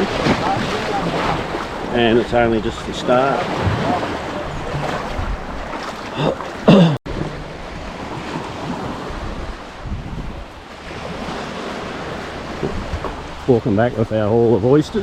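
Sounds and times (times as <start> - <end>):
waves washing on shore: 0.0 - 15.0
wind buffeting microphone: 0.0 - 15.0.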